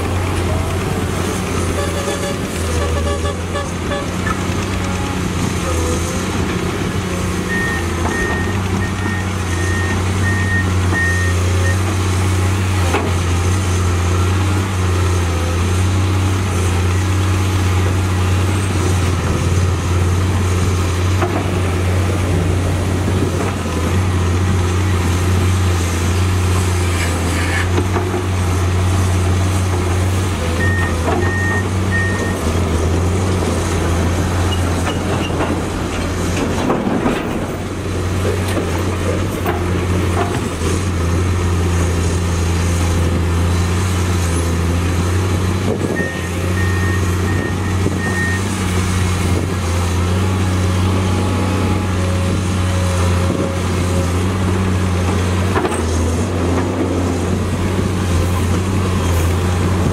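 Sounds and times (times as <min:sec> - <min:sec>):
excavator diesel engine humming: 0:00.0 - 0:59.9.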